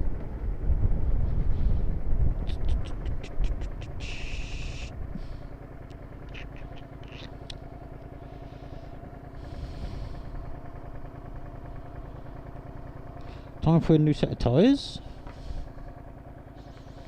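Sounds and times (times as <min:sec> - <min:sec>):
low wind rumble: 0:00.0 - 0:13.7
motorcycle engine cruising: 0:00.0 - 0:17.0.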